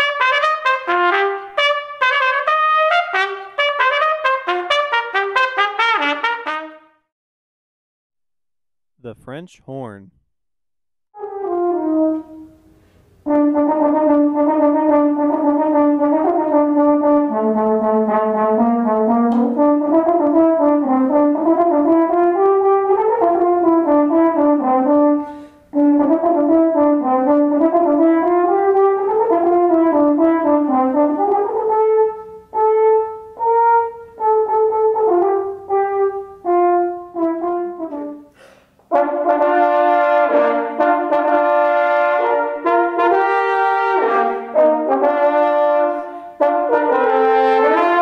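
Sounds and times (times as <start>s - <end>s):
french horn melody: 0.0s - 7.0s, 11.2s - 38.3s, 38.9s - 48.0s.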